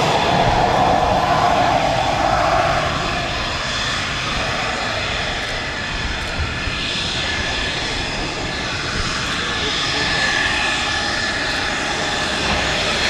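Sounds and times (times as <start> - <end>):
jet engine roar with whine: 0.0 - 13.0.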